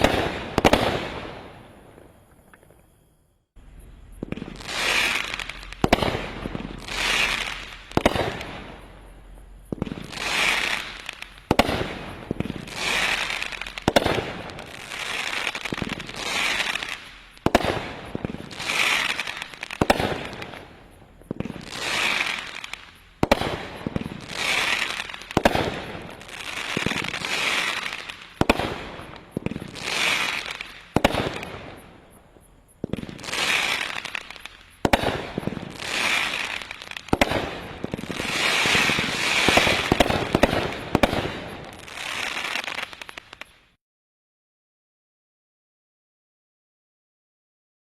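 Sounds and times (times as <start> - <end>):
firework bangs: 0.0 - 2.9, 4.0 - 43.5
firework stars crackling: 0.0 - 43.8.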